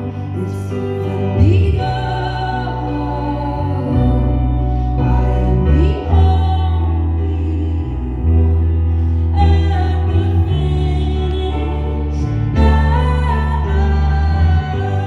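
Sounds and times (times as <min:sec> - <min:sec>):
live singing with instruments: 0:00.0 - 0:15.0.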